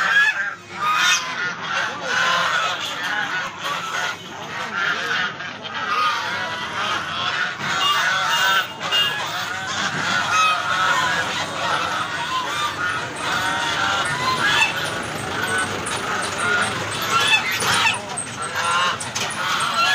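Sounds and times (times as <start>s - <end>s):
geese honking: 0.0s - 19.9s.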